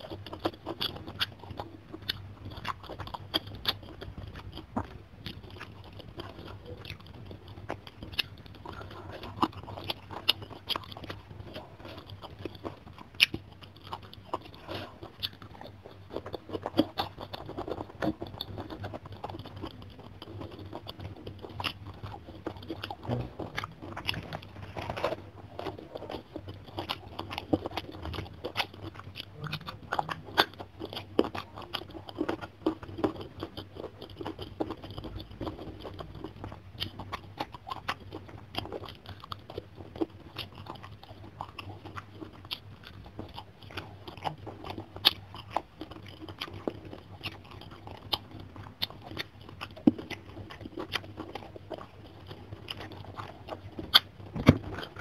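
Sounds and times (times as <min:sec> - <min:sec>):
crunchy chewing with mouth clicks: 0:00.0 - 0:55.0
faint low hum: 0:00.0 - 0:55.0.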